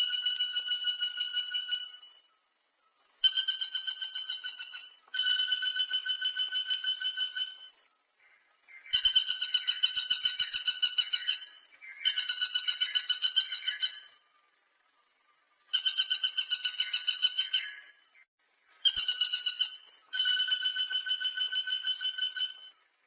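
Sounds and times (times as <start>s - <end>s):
woodpecker call rattle: 0.0s - 2.3s, 3.0s - 14.3s, 15.6s - 23.0s.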